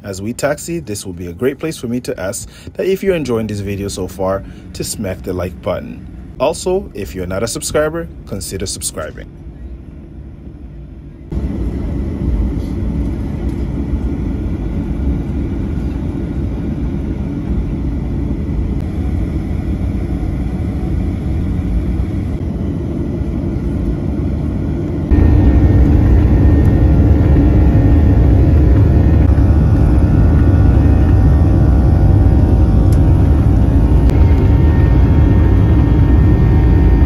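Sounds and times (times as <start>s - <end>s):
jet engines rumbling from cabin: 0.0s - 37.0s.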